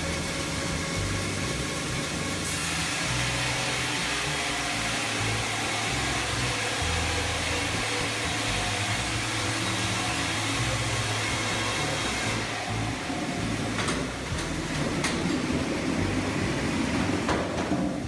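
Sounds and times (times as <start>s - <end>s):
large machine rushing noise: 0.0s - 18.0s
low hum shifting in pitch: 0.0s - 18.0s.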